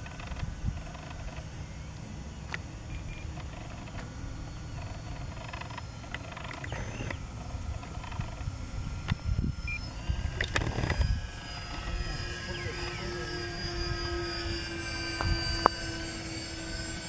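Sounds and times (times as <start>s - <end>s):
model plane motor drone: 0.0s - 17.0s.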